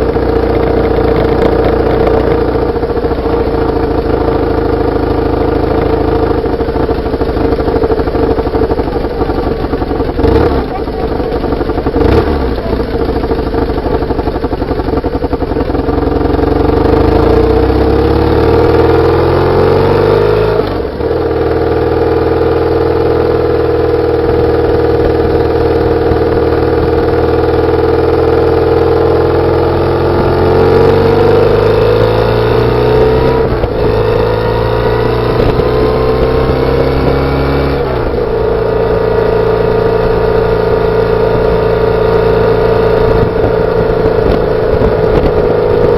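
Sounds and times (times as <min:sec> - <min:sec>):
motorcycle engine under way: 0:00.0 - 0:45.9.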